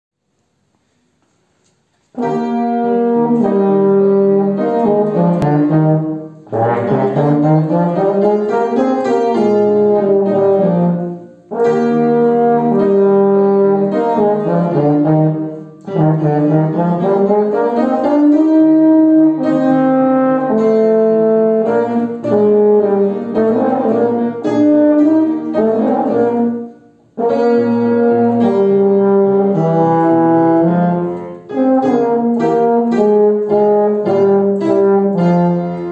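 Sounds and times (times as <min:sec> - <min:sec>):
upright piano accompaniment: 0:01.8 - 0:35.9
brass horn playing slow melody: 0:02.1 - 0:35.9.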